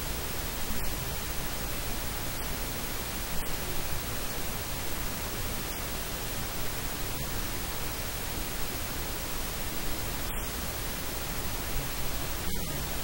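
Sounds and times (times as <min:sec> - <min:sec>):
static hiss: 0:00.0 - 0:13.0.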